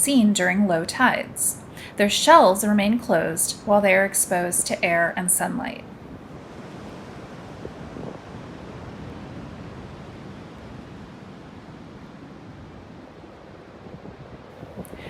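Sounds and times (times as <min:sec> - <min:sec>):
ocean surf at the shore: 0:00.0 - 0:15.0
wind rumbling on microphone: 0:00.0 - 0:15.0.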